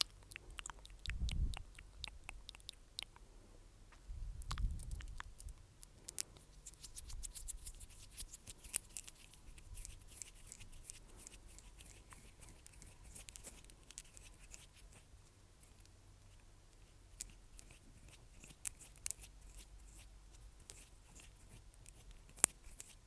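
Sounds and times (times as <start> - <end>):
crisp clicks and crackles: 0.0 - 3.2, 4.4 - 15.0, 16.8 - 23.0.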